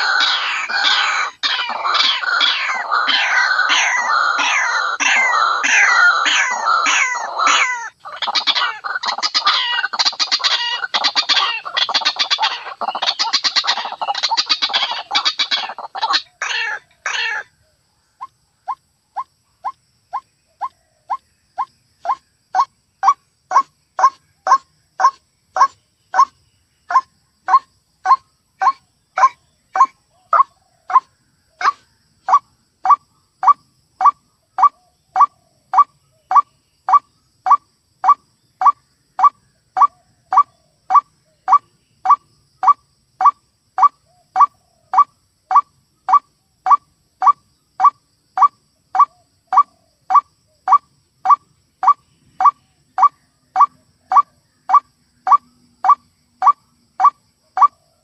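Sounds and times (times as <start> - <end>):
waterhen call: 0.0 - 17.5, 18.2 - 26.3, 26.9 - 57.8.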